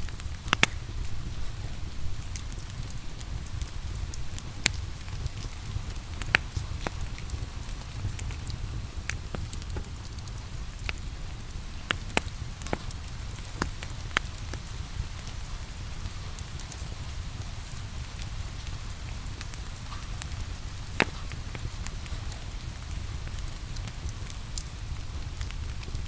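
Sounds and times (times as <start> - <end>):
steady rain: 0.0 - 26.0
wood fire crackling and popping: 0.0 - 26.0.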